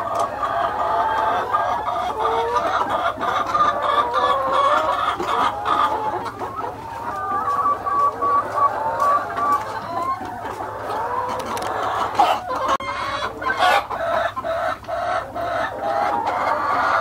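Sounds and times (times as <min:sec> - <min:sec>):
hens clucking and calling: 0:00.0 - 0:17.0.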